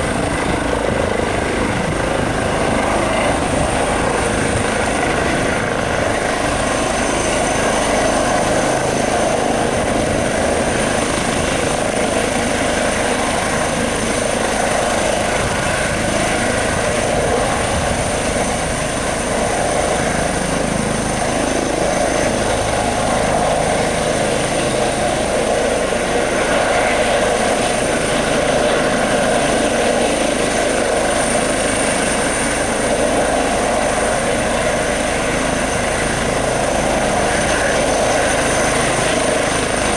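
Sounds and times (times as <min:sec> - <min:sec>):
helicopter rotors running: 0:00.0 - 0:39.9
high turbine whine: 0:00.0 - 0:39.9.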